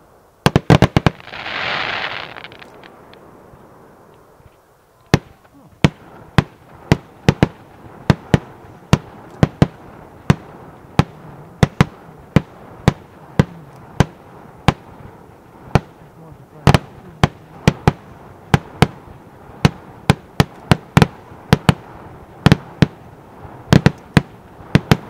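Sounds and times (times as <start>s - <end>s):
faint hiss: 0.0s - 25.0s
fireworks bangs: 0.4s - 3.9s, 5.1s - 25.0s.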